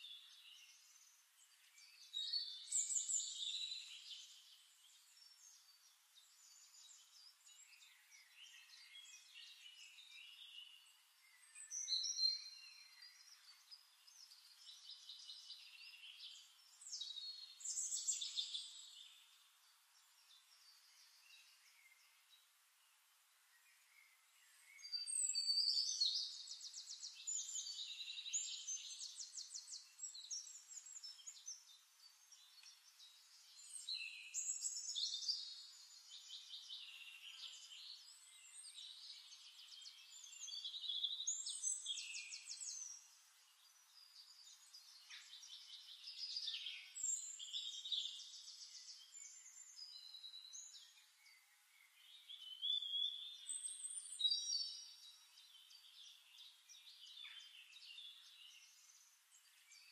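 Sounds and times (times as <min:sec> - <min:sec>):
birdsong with trills and whistles: 0:00.0 - 0:59.9.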